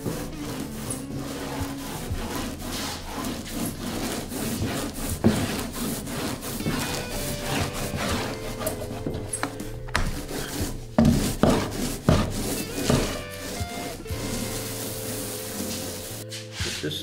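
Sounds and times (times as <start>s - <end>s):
paint roller rasping on wood: 0.0s - 17.0s.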